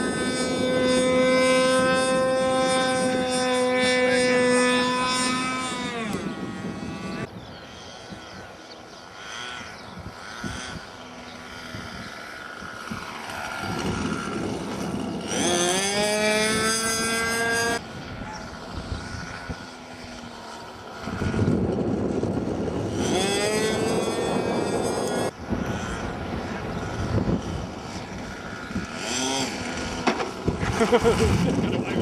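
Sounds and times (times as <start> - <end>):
wind rumble on microphone: 0.0 - 8.6, 9.2 - 32.0
model airplane engine flying past: 0.0 - 32.0.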